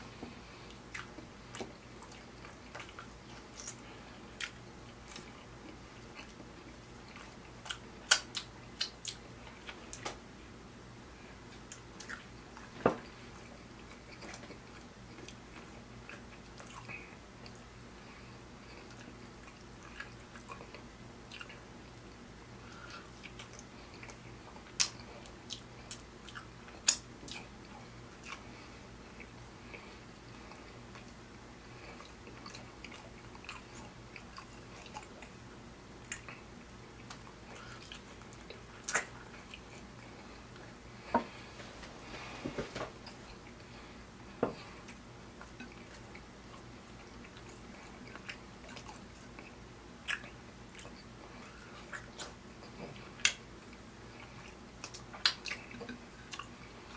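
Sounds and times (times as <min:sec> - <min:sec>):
faint low hum: 0:00.0 - 0:56.9
man chewing with wet smacks: 0:00.0 - 0:56.9.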